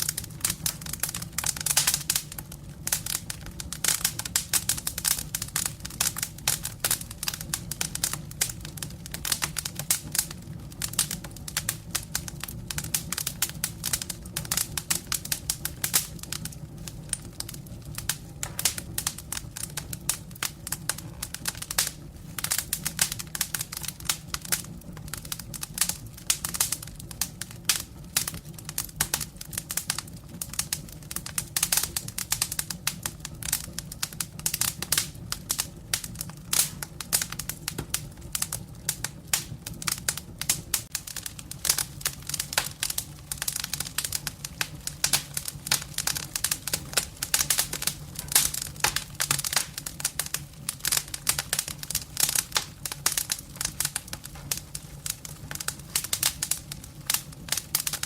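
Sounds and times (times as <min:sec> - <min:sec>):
firewood crackling: 0:00.0 - 0:58.0
low rumble of fire: 0:00.0 - 0:58.0
sharp snaps of burning wood: 0:00.0 - 0:58.0.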